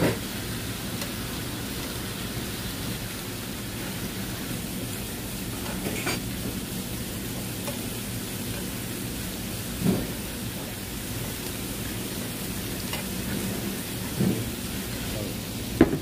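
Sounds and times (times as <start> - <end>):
meat sizzling on a pan: 0.0 - 16.0.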